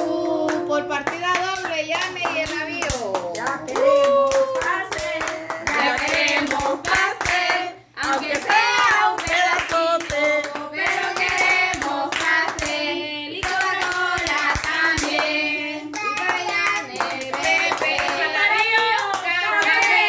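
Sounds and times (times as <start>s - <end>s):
group of voices singing: 0.0s - 1.1s, 3.4s - 20.0s
hand clapping: 0.0s - 20.0s.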